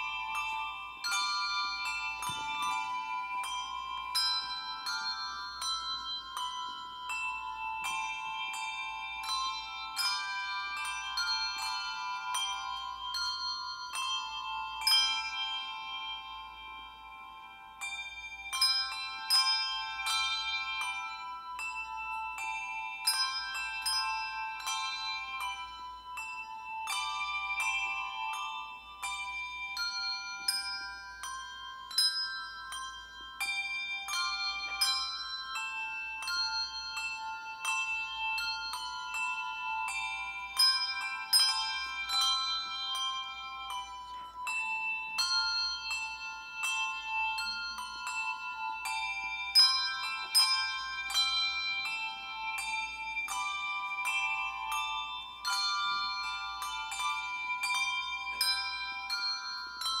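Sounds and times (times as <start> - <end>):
tuned bells playing a melody: 0.0 - 60.0.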